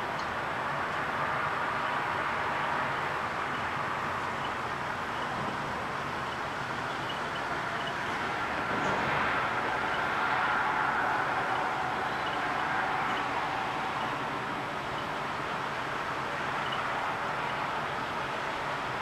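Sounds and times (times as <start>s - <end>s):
distant city traffic hiss: 0.0s - 19.0s.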